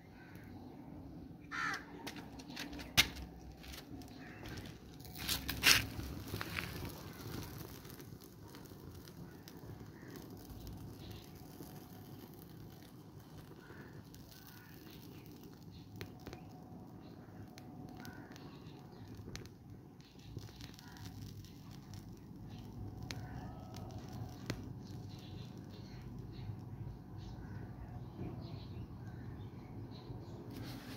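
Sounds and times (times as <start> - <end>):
paper fire crackling and popping: 1.6 - 30.9.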